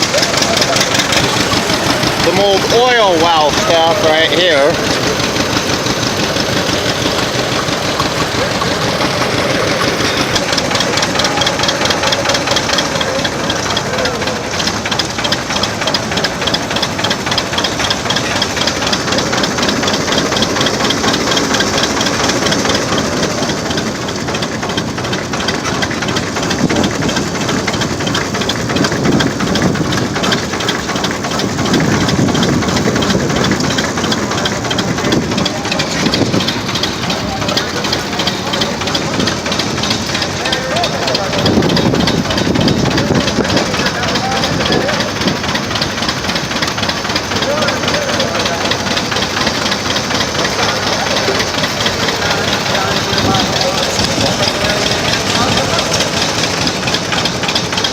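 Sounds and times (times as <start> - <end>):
old engine chugging: 0.0 - 57.9.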